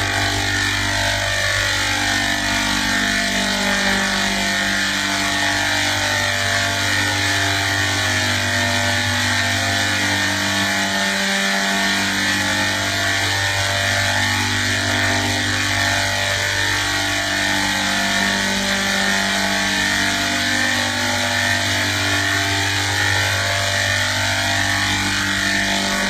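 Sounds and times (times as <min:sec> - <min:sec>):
mechanical drone: 0:00.0 - 0:26.0.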